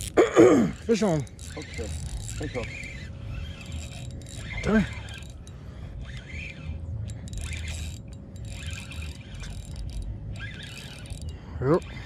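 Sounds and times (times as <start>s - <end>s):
fishing reel whirring: 0.0s - 12.0s
reel clicks: 0.0s - 12.0s.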